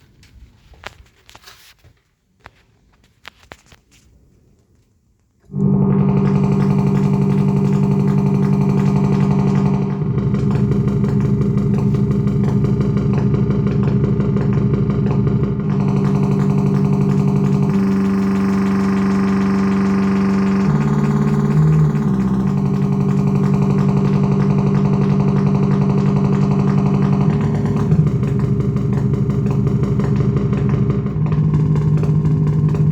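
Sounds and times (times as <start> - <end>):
synthesizer engine idle imitation: 5.5 - 32.9.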